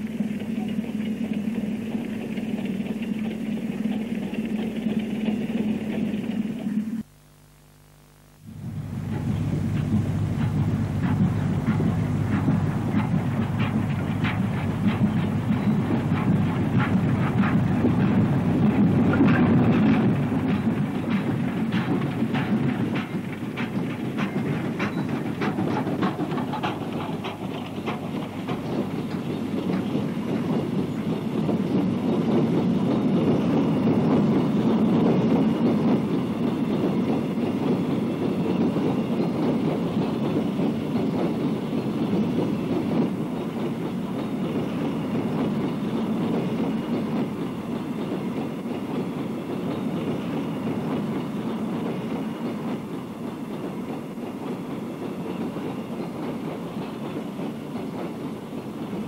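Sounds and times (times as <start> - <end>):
wagons rolling past: 0.0 - 7.0, 8.6 - 59.0
steam engine exhaust beats: 0.0 - 59.0.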